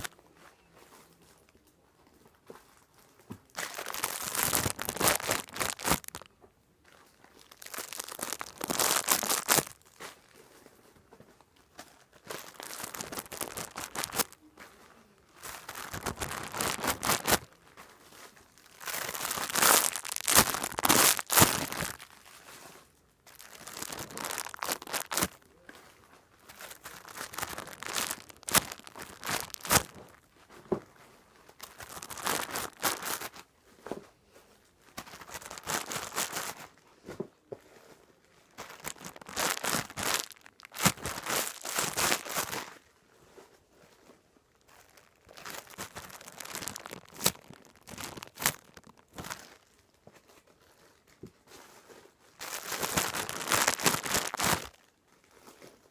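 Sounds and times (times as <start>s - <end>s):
plastic packaging crinkling: 0.0s - 0.2s, 2.7s - 10.8s, 11.5s - 33.5s, 34.9s - 55.9s.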